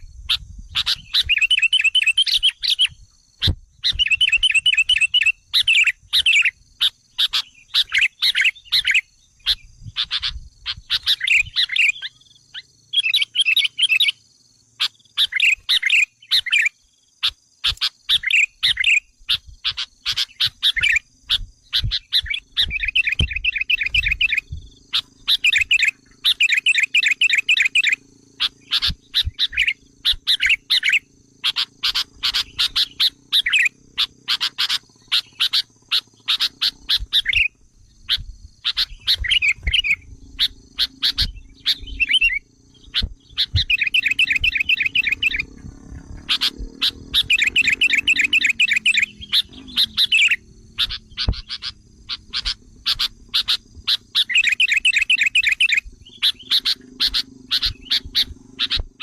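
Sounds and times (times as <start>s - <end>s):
bulbuls chattering calls: 0.0s - 14.2s, 14.8s - 59.0s.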